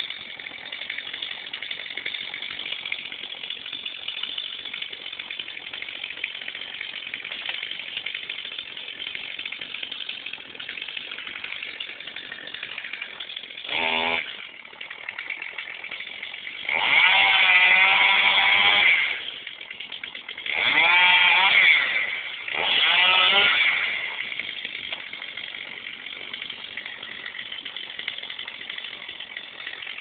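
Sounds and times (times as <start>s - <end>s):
chainsaw idling and revving: 0.0s - 30.0s.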